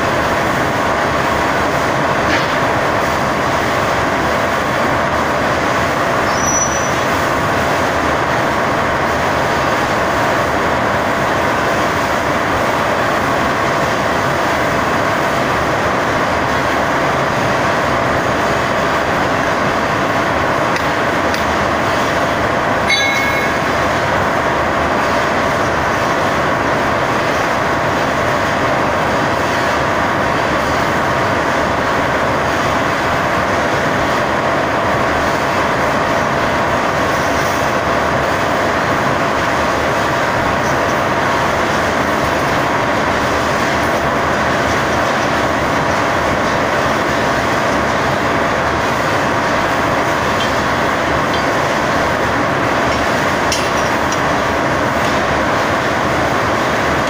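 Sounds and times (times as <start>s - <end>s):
machinery running: 7.0s - 57.0s.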